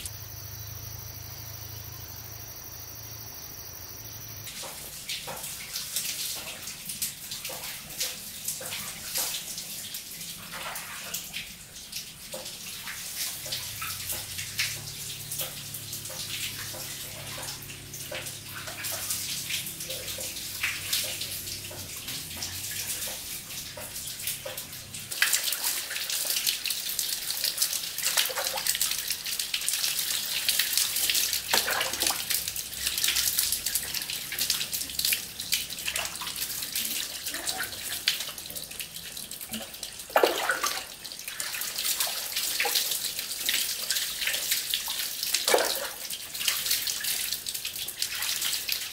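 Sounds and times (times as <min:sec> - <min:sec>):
water splashing and trickling: 0:00.0 - 0:02.9, 0:04.2 - 0:48.9
rushing water: 0:04.5 - 0:48.9.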